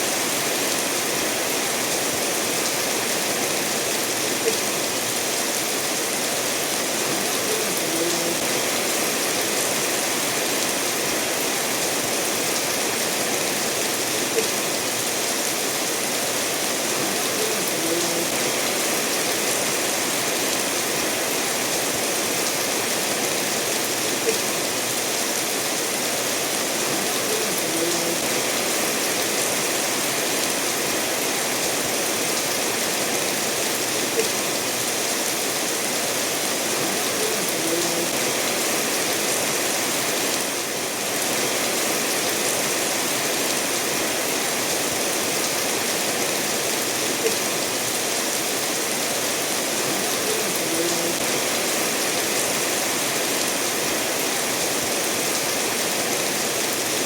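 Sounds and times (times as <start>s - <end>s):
steady rainfall: 0.0s - 57.0s
stream flowing over stones: 0.0s - 57.0s.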